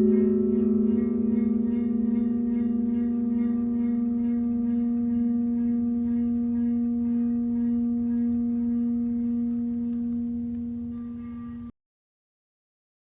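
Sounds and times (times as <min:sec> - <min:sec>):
held ringing musical tone: 0:00.0 - 0:11.7.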